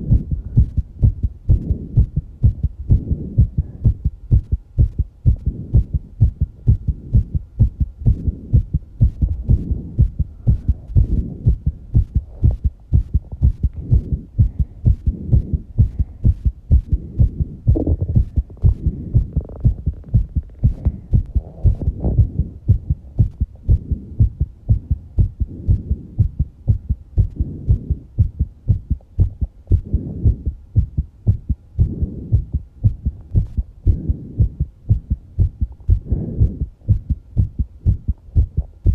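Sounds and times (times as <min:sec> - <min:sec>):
rapid heartbeat thumps: 0:00.0 - 0:38.9
soft breathing: 0:00.0 - 0:38.9.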